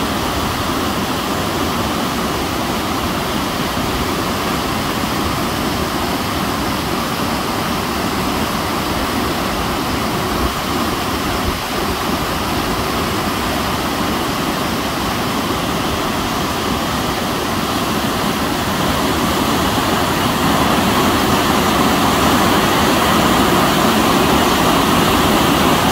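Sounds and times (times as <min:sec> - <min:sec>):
water rushing over a dam spillway: 0:00.0 - 0:25.9.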